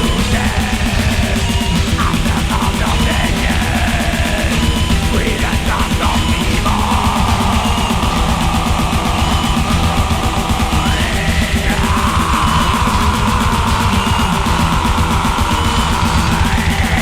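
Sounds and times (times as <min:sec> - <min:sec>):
distorted guitars: 0:00.0 - 0:17.0
drums: 0:00.0 - 0:17.0.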